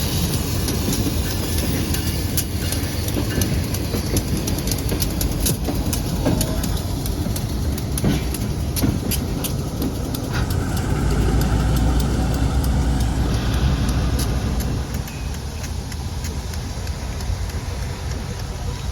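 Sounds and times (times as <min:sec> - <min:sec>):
freight train rolling past: 0:00.0 - 0:18.9
wheels clicking over rail joints: 0:00.0 - 0:18.9.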